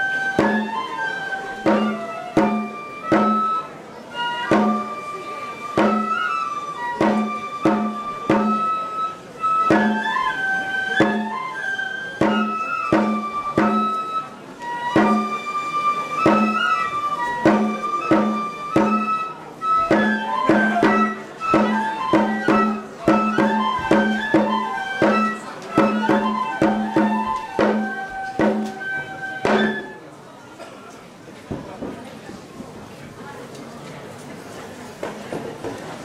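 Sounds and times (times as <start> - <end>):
drum beats: 0.0 - 30.0
flute melody: 0.0 - 30.1.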